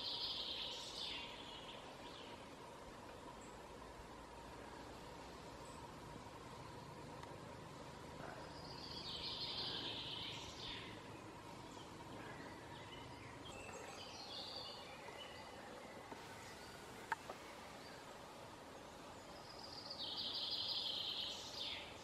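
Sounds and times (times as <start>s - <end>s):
faint birdsong: 0.0s - 22.0s
steady background hiss: 0.0s - 22.0s.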